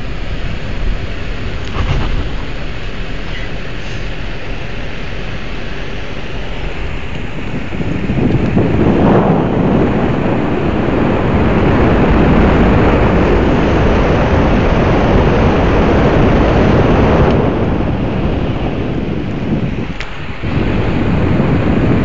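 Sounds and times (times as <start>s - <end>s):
moving vehicle rumble: 0.0s - 22.0s
wind buffeting microphone: 0.0s - 22.0s.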